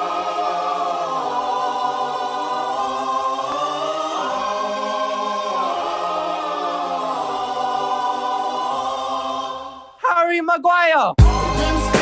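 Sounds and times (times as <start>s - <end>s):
choir singing held chords: 0.0s - 10.0s, 11.2s - 12.0s.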